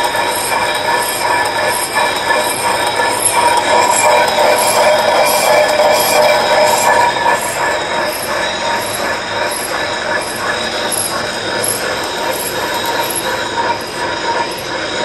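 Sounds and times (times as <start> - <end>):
lathe whirring with high whine: 0.0 - 15.0.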